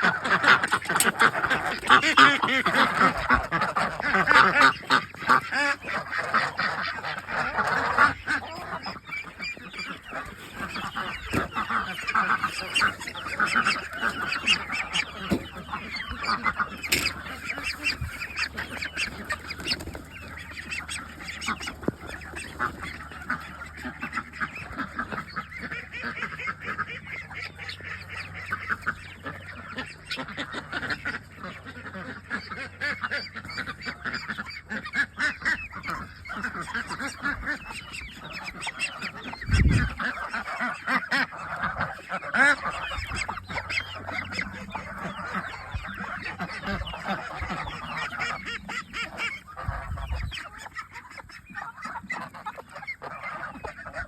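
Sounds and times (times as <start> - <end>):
ducks quacking: 0.0 - 54.0
geese honking: 0.0 - 54.0.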